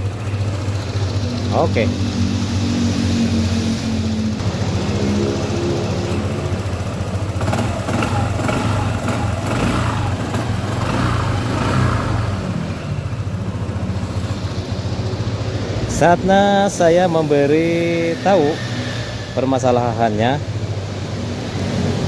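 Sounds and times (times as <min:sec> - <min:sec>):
scooter engine idling: 0:00.0 - 0:22.0.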